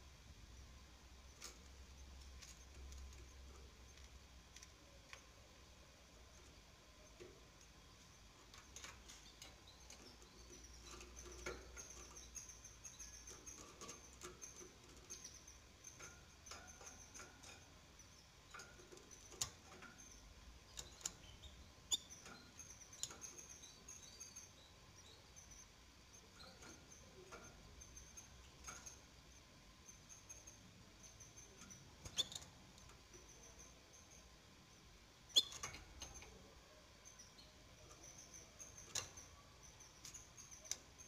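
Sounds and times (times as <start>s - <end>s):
nestlings peeping: 0.0s - 41.0s.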